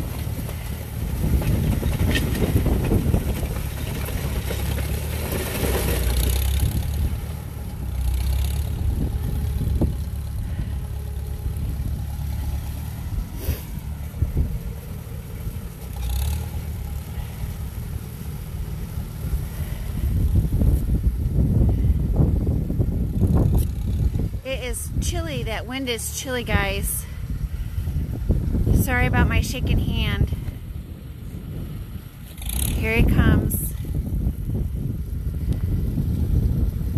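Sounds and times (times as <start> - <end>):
implement dragging over dirt: 0.0 - 36.9
tractor engine running: 0.0 - 36.9
wind rumbling on microphone: 0.0 - 36.9.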